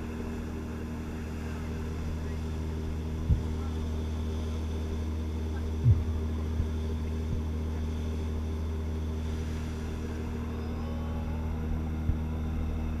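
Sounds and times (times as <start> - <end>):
ferry engines droning: 0.0 - 13.0.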